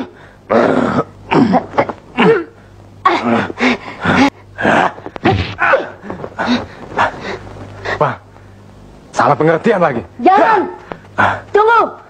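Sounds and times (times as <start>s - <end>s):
people shouting and grunting: 0.0s - 8.3s, 10.2s - 12.0s
low steady hum: 0.0s - 12.0s.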